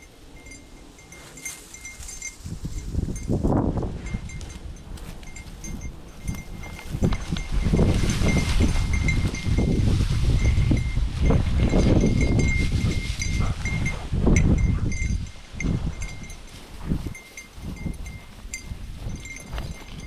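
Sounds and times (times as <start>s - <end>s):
small bell jingling: 0.0s - 20.0s.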